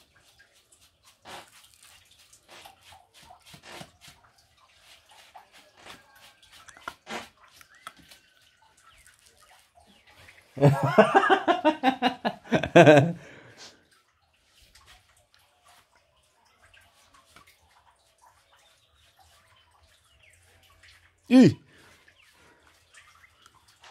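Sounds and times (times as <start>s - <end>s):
water splashing and dripping: 0.0s - 23.9s.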